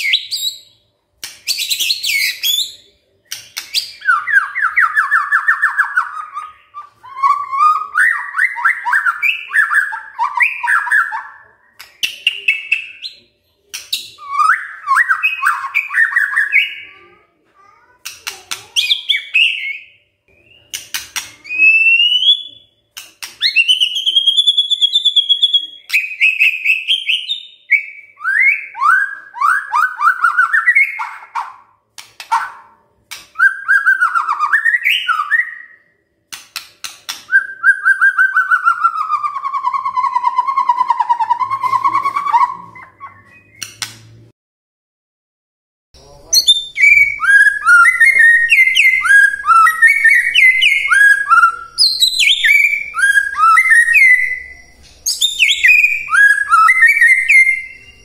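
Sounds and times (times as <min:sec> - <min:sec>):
bird singing trills and whistles: 0:00.0 - 0:00.8, 0:01.4 - 0:17.1, 0:18.5 - 0:31.7, 0:32.3 - 0:35.9, 0:37.1 - 0:43.9, 0:46.0 - 0:58.0.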